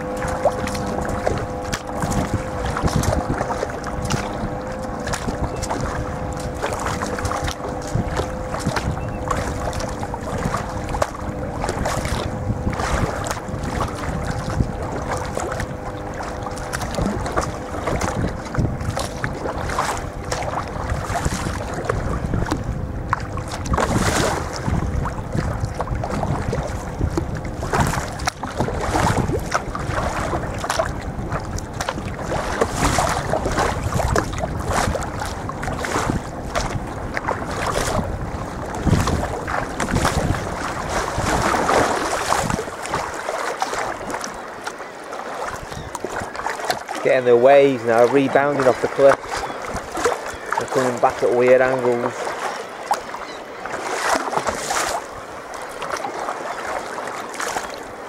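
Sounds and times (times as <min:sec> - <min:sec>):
water splashing around kayak: 0:00.0 - 0:58.0
wind buffeting microphone: 0:00.0 - 0:58.0.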